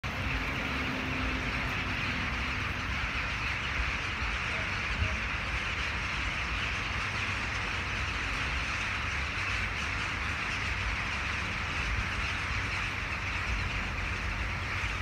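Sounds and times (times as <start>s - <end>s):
flock of crows calling: 0.0s - 15.0s.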